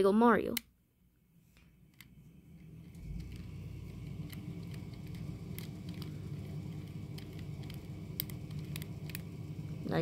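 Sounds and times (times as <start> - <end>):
steady low hum: 0.6 - 10.0.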